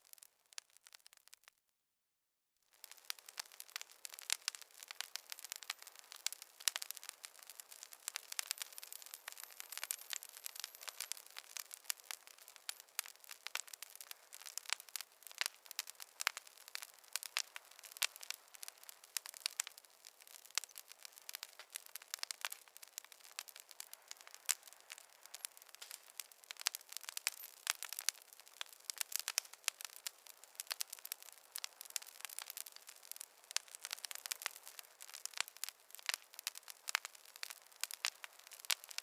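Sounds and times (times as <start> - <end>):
wood fire crackling: 0.0 - 1.6, 2.7 - 39.0.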